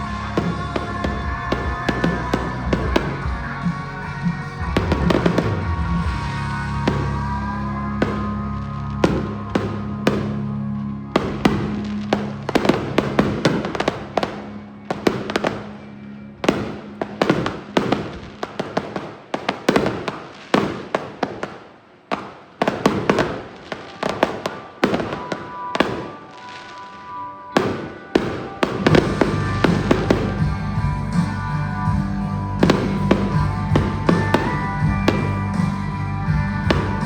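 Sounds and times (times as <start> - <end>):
fireworks bursting: 0.0 - 37.0
fireworks crackle: 0.0 - 37.0.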